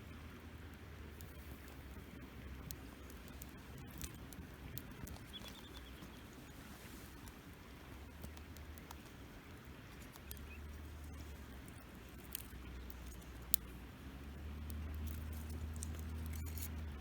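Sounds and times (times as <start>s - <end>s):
campfire crackling and popping: 0.2s - 17.0s.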